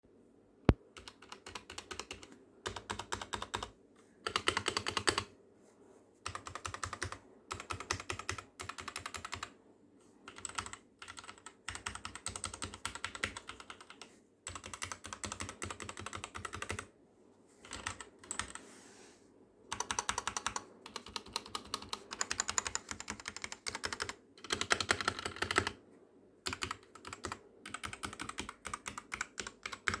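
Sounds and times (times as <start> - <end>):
mechanical keyboard typing: 0.9 - 5.3, 6.2 - 9.5, 10.3 - 16.9, 17.6 - 18.6, 19.7 - 25.8, 26.4 - 30.0.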